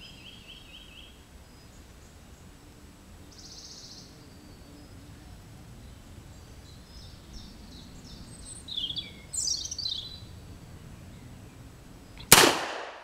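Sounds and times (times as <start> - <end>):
small bird singing: 0.0 - 12.3
low outdoor rumble: 0.0 - 13.0.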